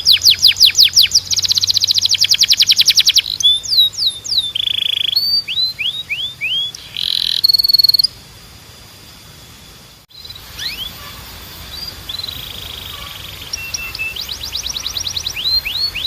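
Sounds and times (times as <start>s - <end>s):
canary singing: 0.0s - 8.2s, 10.1s - 16.0s.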